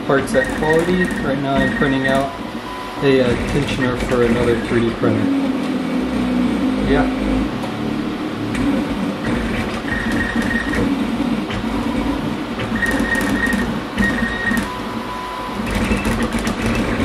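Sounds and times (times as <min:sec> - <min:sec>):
steady hum: 0:00.0 - 0:17.0
stepper motors whining: 0:00.0 - 0:17.0.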